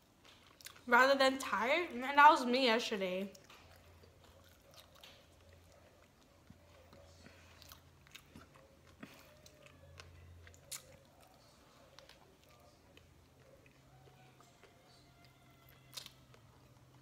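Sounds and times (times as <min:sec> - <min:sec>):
chewing and biting a burger: 0:03.3 - 0:17.0.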